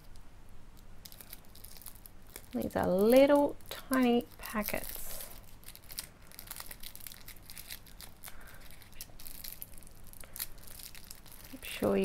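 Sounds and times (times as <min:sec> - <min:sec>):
wrapping crinkling: 0:01.0 - 0:12.0.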